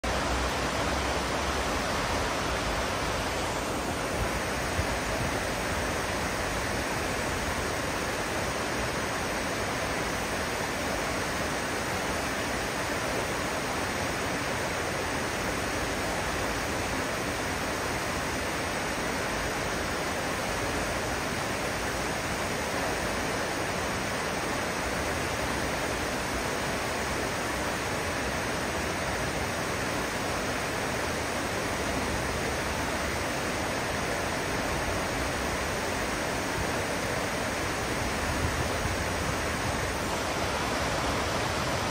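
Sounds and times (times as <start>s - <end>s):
river water rushing over rocks: 0.0s - 41.9s.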